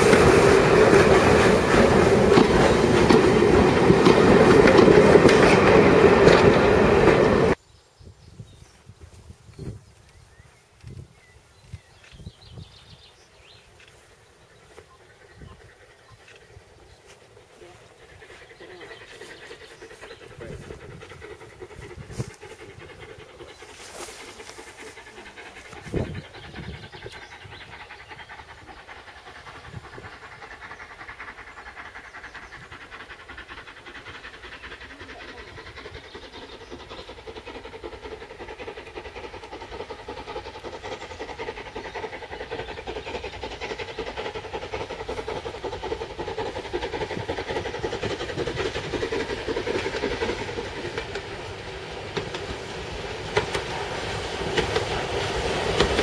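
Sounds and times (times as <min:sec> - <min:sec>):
steam locomotive exhaust beats: 0:00.0 - 0:07.6, 0:08.3 - 0:56.0.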